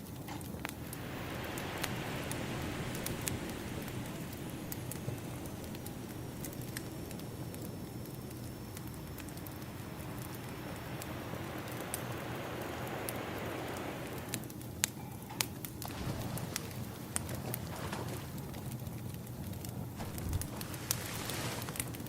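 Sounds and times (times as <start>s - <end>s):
wood fire crackling: 0.0s - 22.0s
ocean waves: 0.8s - 14.6s, 15.9s - 18.3s, 20.0s - 22.0s.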